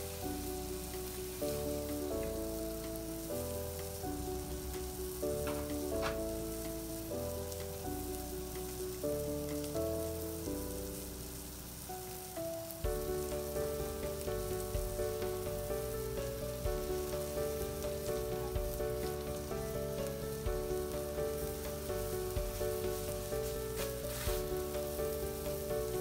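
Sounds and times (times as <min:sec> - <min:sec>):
background music with held chords: 0:00.0 - 0:26.0
steak sizzling in a frying pan: 0:00.0 - 0:26.0.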